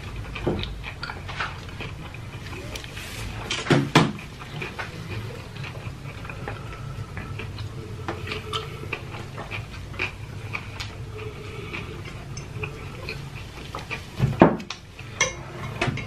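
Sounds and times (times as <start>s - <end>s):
chewing: 0.0s - 16.0s.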